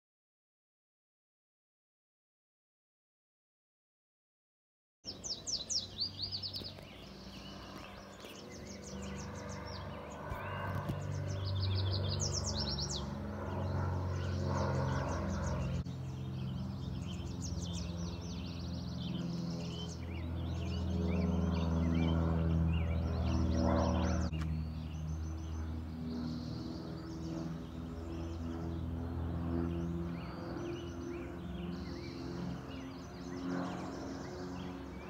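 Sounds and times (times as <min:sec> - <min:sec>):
birds chirping and trilling: 0:05.1 - 0:35.0
propeller plane droning: 0:05.1 - 0:35.0.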